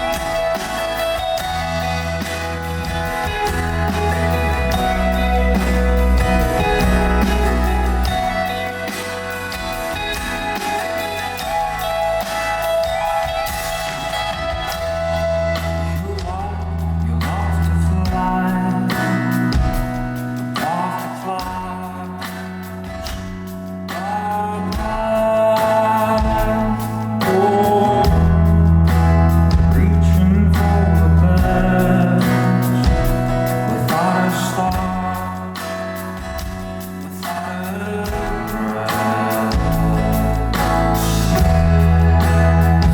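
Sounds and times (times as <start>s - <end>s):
bass guitar: 0.0s - 42.9s
drums: 0.0s - 42.9s
electric guitars: 0.0s - 42.9s.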